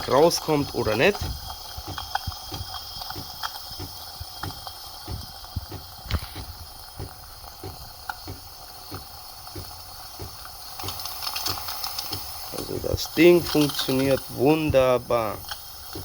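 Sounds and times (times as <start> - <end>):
steam wand hissing and sputtering: 0.0 - 16.0.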